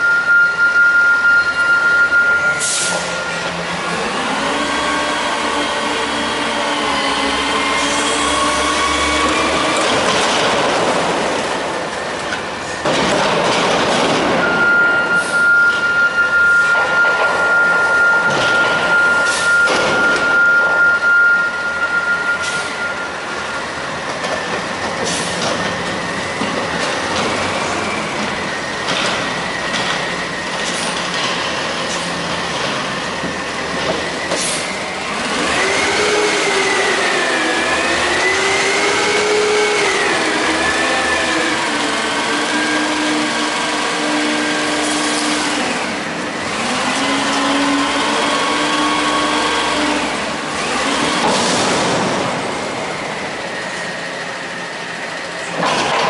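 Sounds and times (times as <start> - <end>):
garbage truck engine: 0.0 - 56.0.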